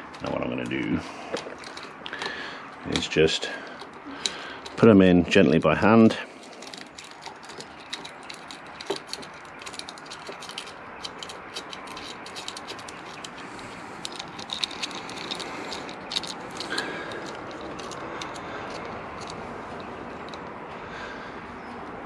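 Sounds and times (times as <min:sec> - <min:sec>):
small metal parts clicking: 0:01.3 - 0:04.9, 0:06.4 - 0:20.5.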